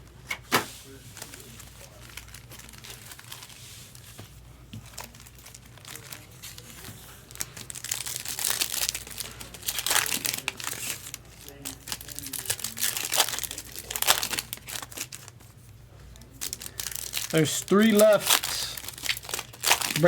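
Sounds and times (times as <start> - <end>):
foil wrappers crinkling and tearing: 0.2 - 20.0.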